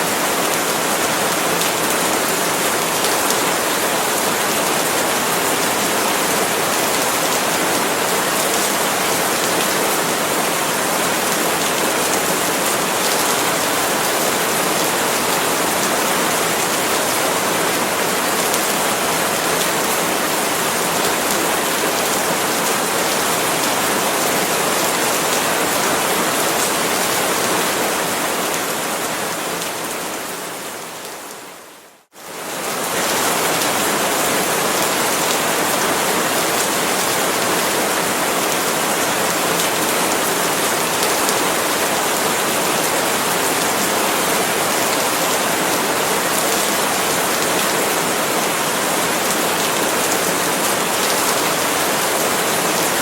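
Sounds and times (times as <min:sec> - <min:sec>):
heavy rain on leaves: 0:00.0 - 0:53.0.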